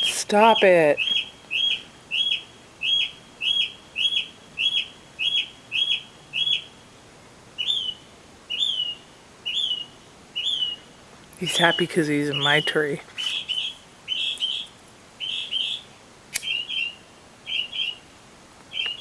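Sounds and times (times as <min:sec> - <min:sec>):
mockingbird singing: 0:00.0 - 0:06.8, 0:07.6 - 0:18.1, 0:18.7 - 0:19.0.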